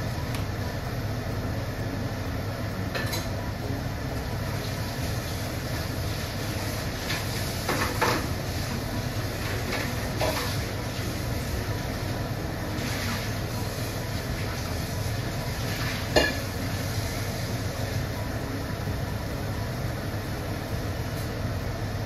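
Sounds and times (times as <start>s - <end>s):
stovetop rumble: 0.0s - 22.0s.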